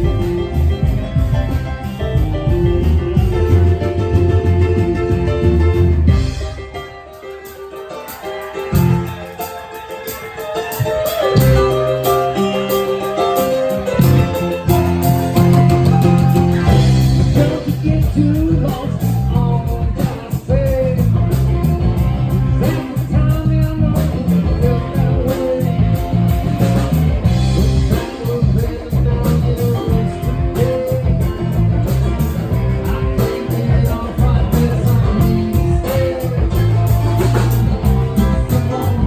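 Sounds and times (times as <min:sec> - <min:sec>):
electric guitar: 0:00.0 - 0:39.0
live rock band playing: 0:00.0 - 0:39.0.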